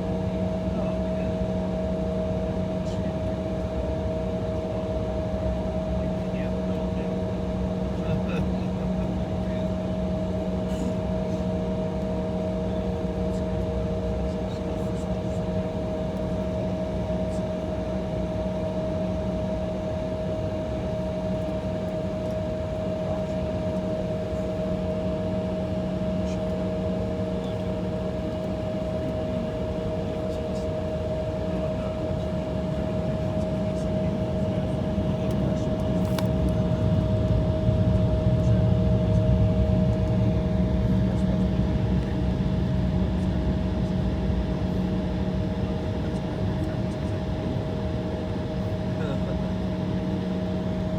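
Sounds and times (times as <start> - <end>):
jet cabin engine drone: 0.0 - 50.9.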